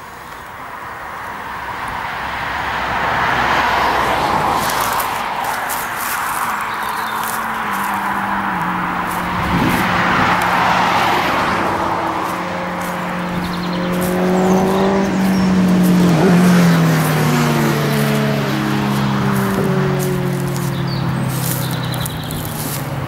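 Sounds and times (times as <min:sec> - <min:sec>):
vehicle tyre noise: 0:00.0 - 0:23.0
vehicle engine passing: 0:01.3 - 0:23.0.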